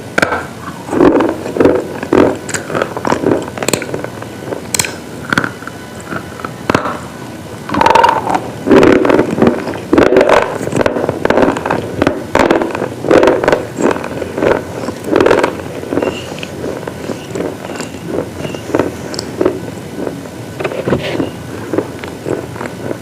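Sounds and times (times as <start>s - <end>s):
crunching of brittle pieces: 0.2s - 7.0s, 7.7s - 23.0s.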